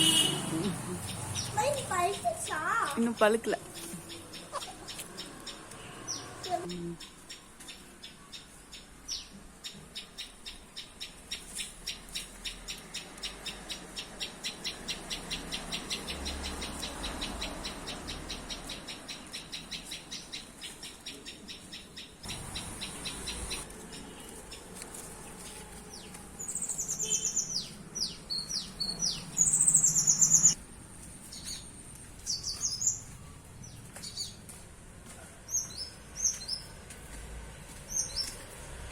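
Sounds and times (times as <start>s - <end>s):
small birds chirping: 0.0s - 34.6s, 35.5s - 36.8s, 37.8s - 38.6s.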